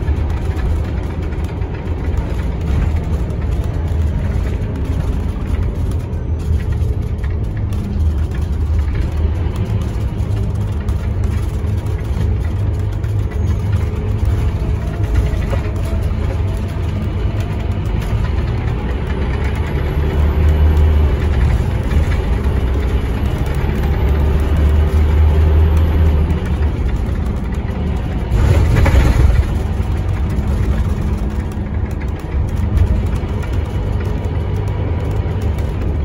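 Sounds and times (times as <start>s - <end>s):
bus diesel engine rumble: 0.0s - 36.0s.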